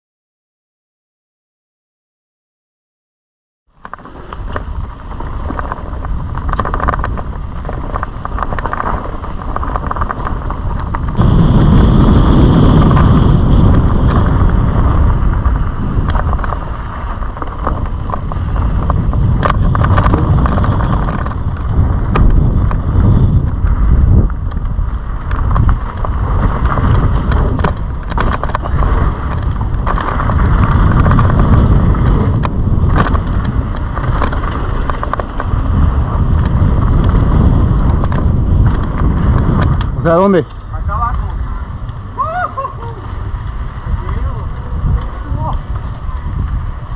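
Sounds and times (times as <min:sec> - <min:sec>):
bike knocks and rattles: 0:03.7 - 0:42.2, 0:43.2 - 0:46.9
tyres rolling over dirt and stones: 0:03.7 - 0:42.2, 0:43.0 - 0:46.9
wind buffeting microphone: 0:03.8 - 0:46.9.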